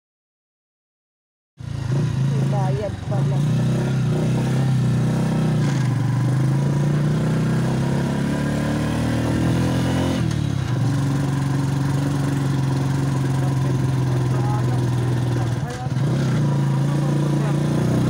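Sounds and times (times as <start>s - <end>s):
motorcycle engine under load: 1.6s - 18.0s.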